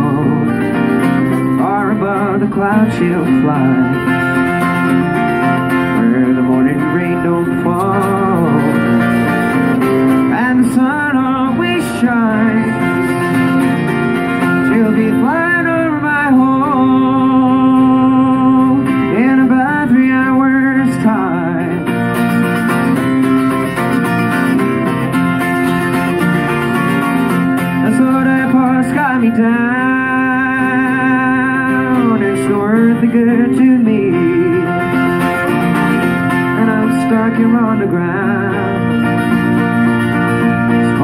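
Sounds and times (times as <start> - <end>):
man singing: 0.0 - 13.6, 14.2 - 21.9, 27.6 - 41.0
strummed acoustic guitar: 0.0 - 41.0.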